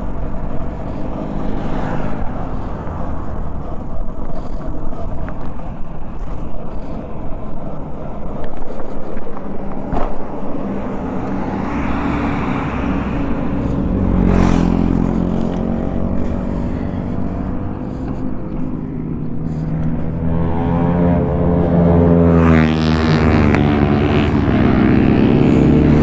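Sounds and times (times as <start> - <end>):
motorcycle riding: 0.0 - 26.0
truck passing: 0.0 - 26.0
wind rushing over microphone: 0.0 - 26.0.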